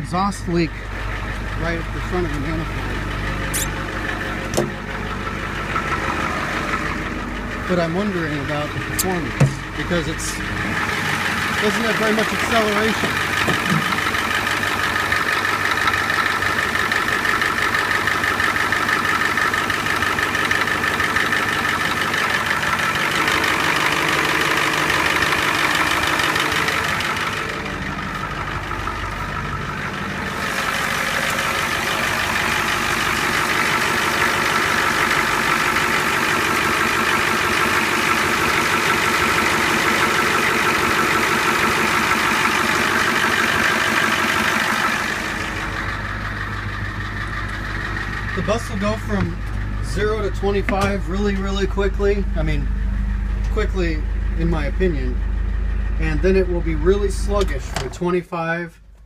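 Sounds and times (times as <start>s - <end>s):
diesel bus engine idling: 0.0s - 59.0s.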